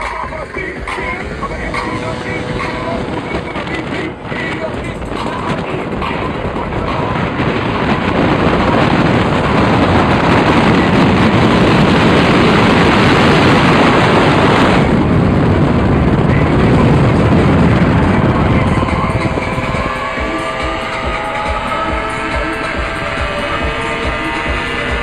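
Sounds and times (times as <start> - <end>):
road noise from a moving car: 0.0 - 25.0
wind buffeting through car window: 0.0 - 25.0.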